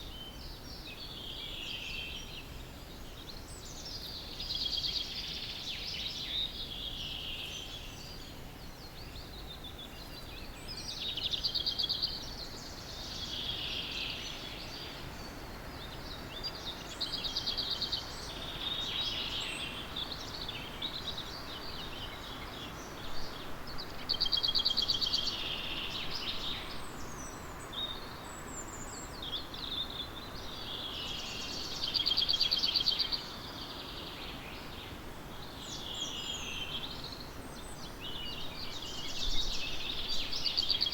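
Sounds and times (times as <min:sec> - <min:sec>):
faint background hiss: 0:00.0 - 0:40.9
songbird trilling song: 0:00.0 - 0:40.9.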